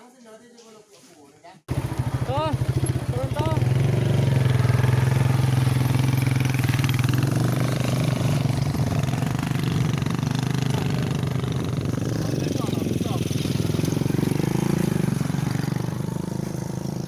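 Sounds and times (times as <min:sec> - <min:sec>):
motorcycle engine running: 0:01.7 - 0:17.0.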